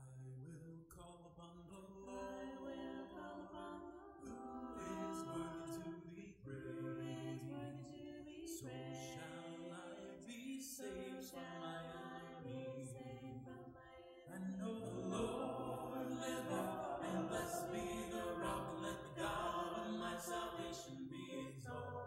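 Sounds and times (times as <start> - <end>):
choir singing a cappella: 1.7 - 22.0.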